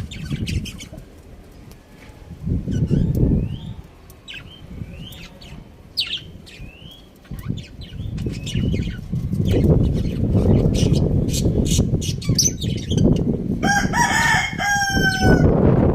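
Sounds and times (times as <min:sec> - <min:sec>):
birds chirping: 0:00.0 - 0:15.4
low rumbling noise: 0:00.0 - 0:15.9.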